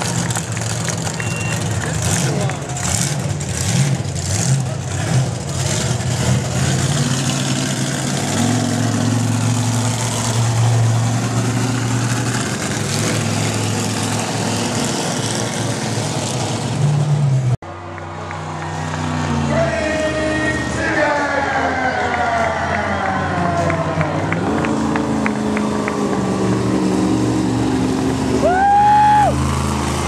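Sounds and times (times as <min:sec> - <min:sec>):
monster truck engine running: 0:00.0 - 0:30.0.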